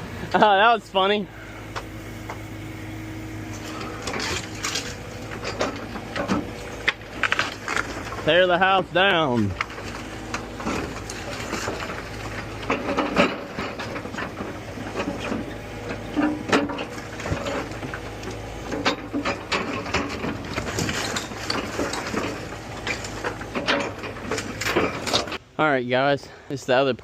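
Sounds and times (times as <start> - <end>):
excavator engine drone: 0.0 - 26.0
house structure cracking and crunching: 3.7 - 25.4.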